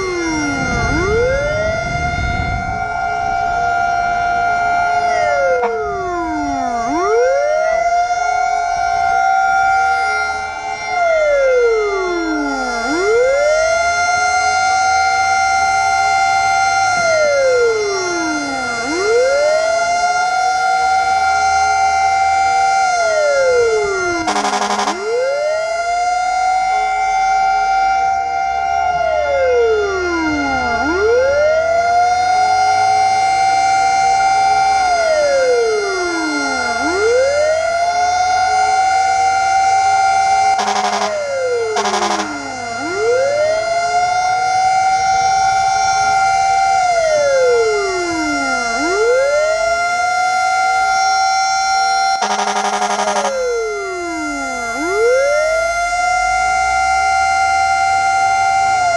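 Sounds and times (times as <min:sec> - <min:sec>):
fire truck siren wailing: 0:00.0 - 0:58.9
steady siren tone: 0:00.0 - 0:58.9.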